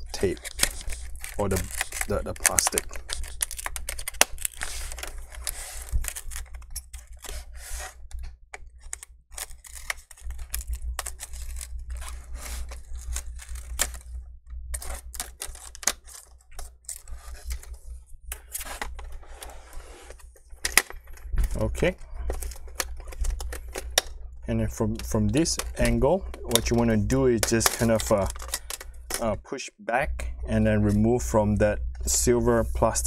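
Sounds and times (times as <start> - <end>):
plastic scraping: 0.0 - 29.3.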